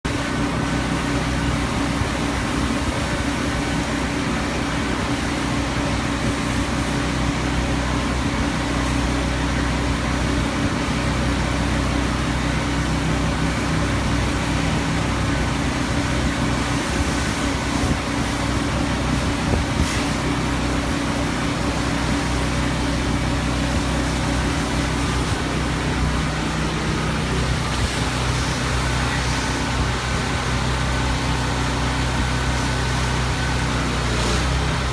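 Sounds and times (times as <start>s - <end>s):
car wash machinery hum: 0.0s - 34.9s.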